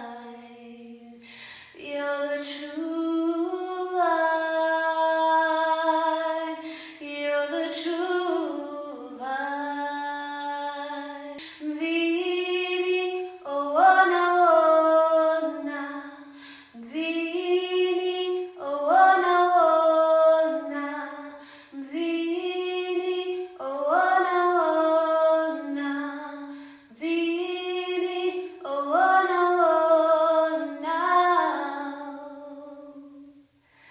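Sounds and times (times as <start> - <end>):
woman singing unaccompanied: 1.8 - 33.3.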